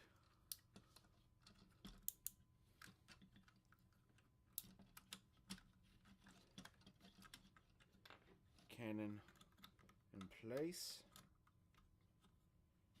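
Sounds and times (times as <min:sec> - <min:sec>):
plastic toy parts clicking: 0:00.5 - 0:12.4.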